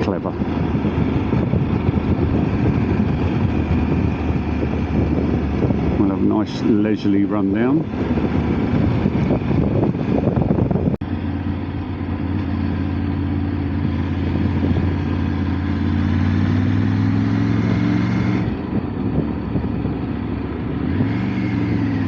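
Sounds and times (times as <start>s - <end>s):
wind rush: 0.0s - 11.0s, 13.7s - 22.0s
motorcycle engine running: 0.0s - 22.0s.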